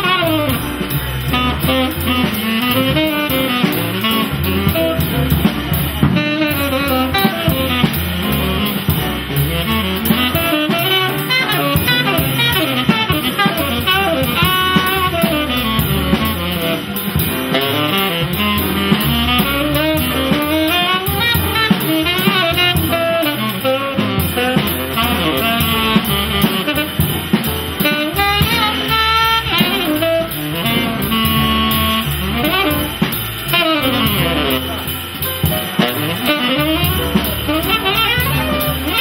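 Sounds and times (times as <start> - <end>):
bass and guitar accompaniment: 0.0 - 39.0
tenor saxophone runs: 0.0 - 39.0.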